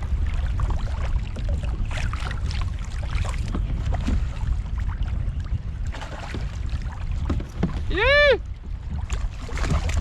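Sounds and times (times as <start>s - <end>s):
water splashes: 0.0s - 10.0s
wind buffeting microphone: 0.0s - 10.0s.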